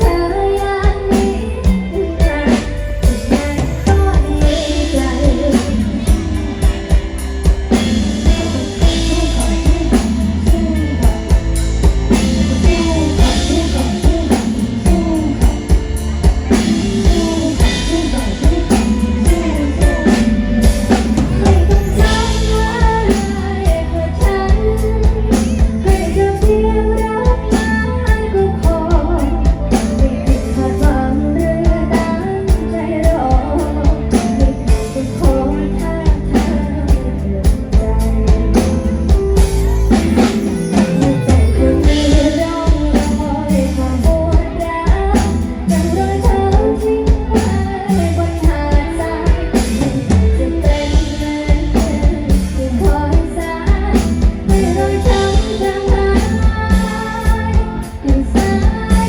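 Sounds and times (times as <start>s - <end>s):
drum kit beat: 0.0s - 59.0s
guitar: 0.0s - 59.0s
person singing pop song: 0.0s - 59.0s.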